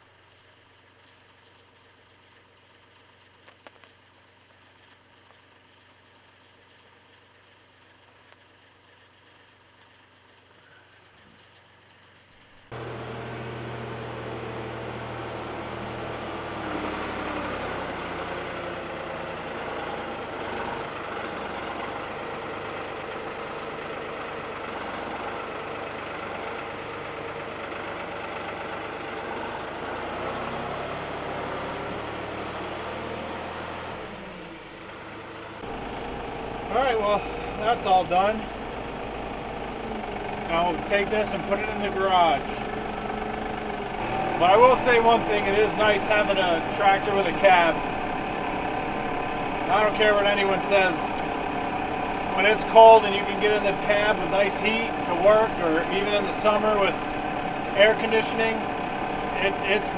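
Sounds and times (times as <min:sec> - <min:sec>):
faint engine idling: 0:00.0 - 0:59.9
tractor diesel engine running: 0:00.0 - 0:59.9.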